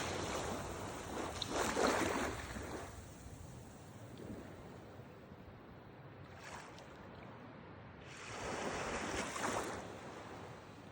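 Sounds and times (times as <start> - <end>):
sea water rushing and splashing: 0.0 - 5.2, 6.2 - 7.4, 8.0 - 10.9
wind: 0.0 - 10.9.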